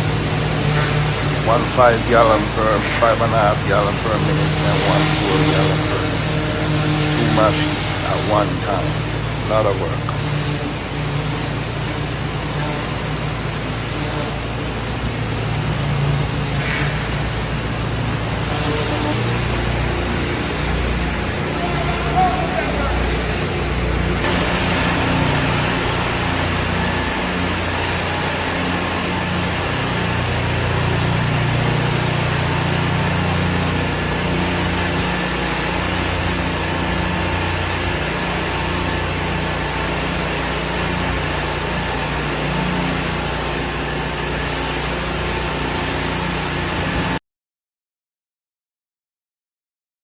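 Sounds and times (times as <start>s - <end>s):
high-pressure water spray hissing: 0.0s - 47.2s
pressure washer engines running: 0.0s - 47.2s.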